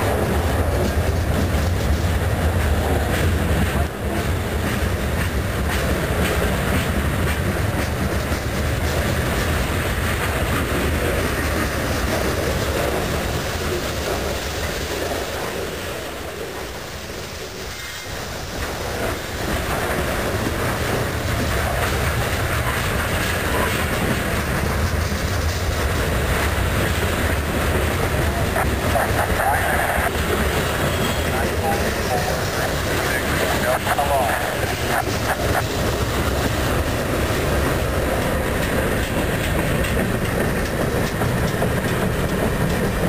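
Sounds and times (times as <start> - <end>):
freight train wheels clattering: 0.0 - 43.0.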